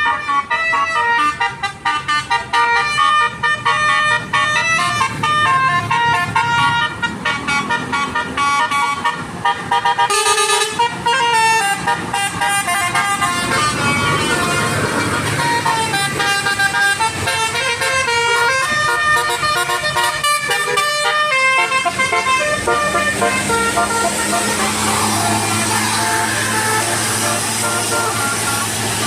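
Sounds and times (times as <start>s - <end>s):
musical bus air horns: 0.0s - 29.0s.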